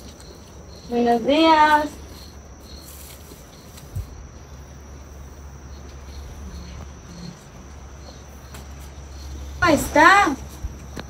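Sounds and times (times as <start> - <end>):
high insect drone: 0.0 - 11.0
insects chirping: 0.0 - 11.0.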